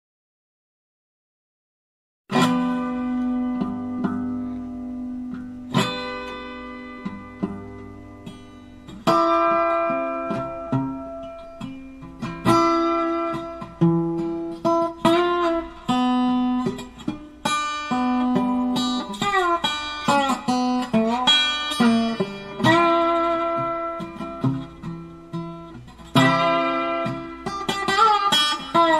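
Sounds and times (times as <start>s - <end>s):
plucked guitar notes: 2.3s - 28.9s.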